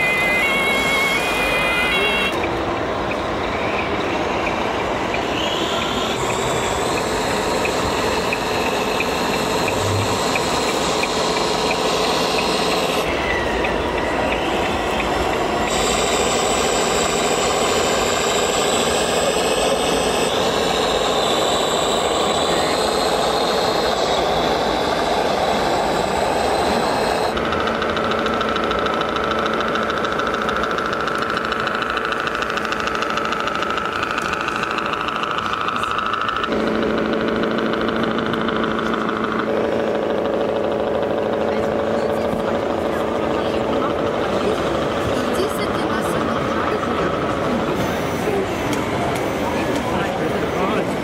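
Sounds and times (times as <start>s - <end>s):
model vehicle motors whining: 0.0s - 51.0s
dense mechanical din: 5.9s - 51.0s.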